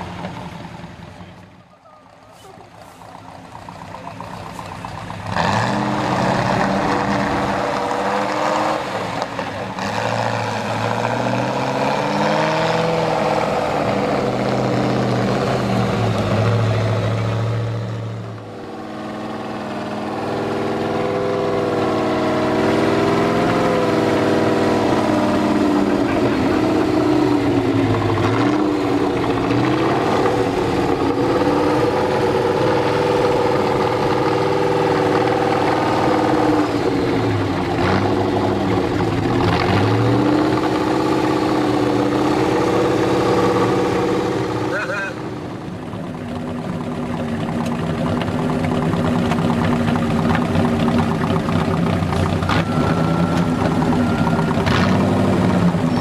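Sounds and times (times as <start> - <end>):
truck engine revving under load: 0.0 - 56.0.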